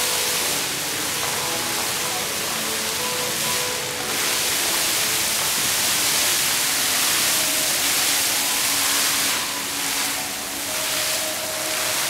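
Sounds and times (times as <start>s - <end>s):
fountain water jets splashing: 0.0s - 12.0s.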